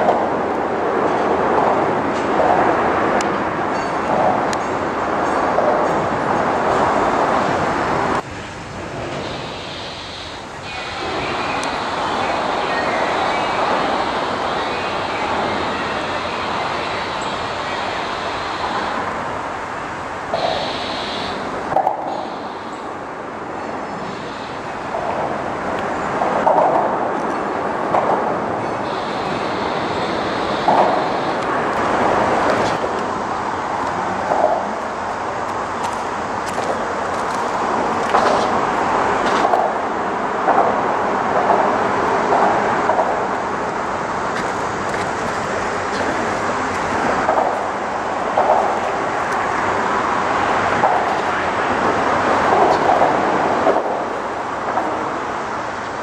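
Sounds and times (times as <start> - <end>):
freight train rumble and rattle: 0.0 - 56.0
train clanks: 0.0 - 56.0.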